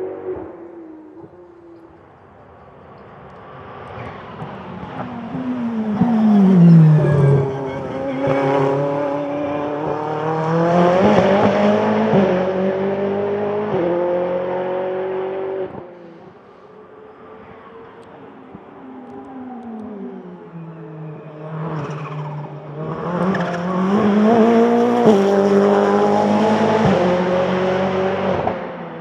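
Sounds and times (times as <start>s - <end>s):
race car engine passing by: 0.0s - 29.0s.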